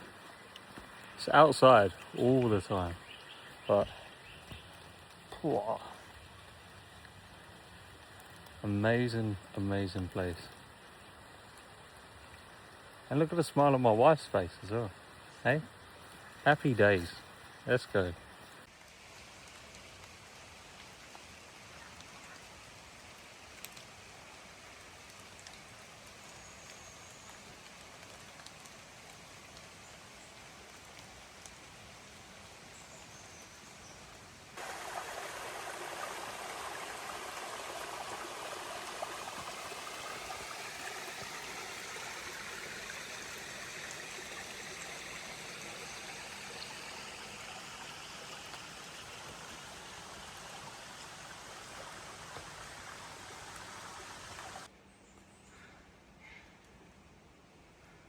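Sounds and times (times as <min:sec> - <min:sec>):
creek water over rocks: 0:00.0 - 0:54.7.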